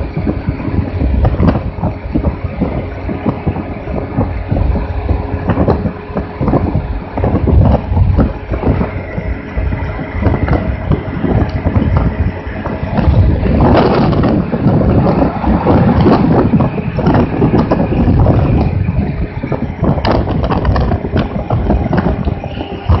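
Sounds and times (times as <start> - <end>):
scooter engine droning: 0.0 - 23.0
wind buffeting microphone: 0.0 - 23.0.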